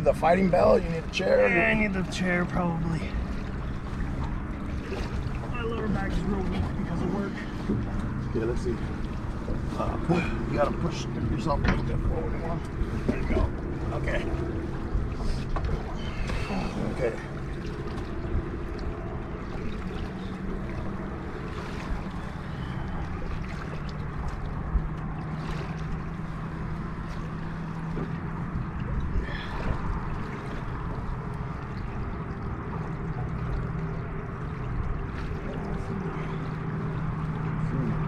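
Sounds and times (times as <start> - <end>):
boat motor hum: 0.0 - 38.0
water noise: 0.0 - 38.0.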